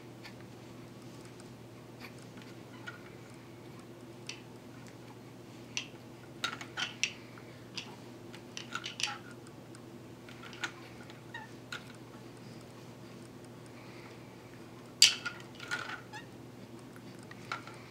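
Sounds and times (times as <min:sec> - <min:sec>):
faint steady hum: 0:00.0 - 0:17.9
small clicks and ticks: 0:00.2 - 0:17.9.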